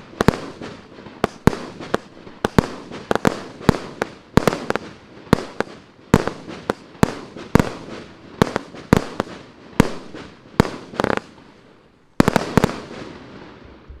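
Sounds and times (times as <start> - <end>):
firework bangs: 0.0 - 11.5, 12.2 - 14.0.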